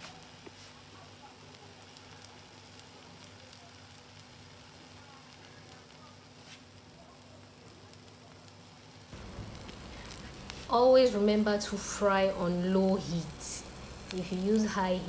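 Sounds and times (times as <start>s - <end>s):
pancake batter sizzling: 0.0s - 15.0s.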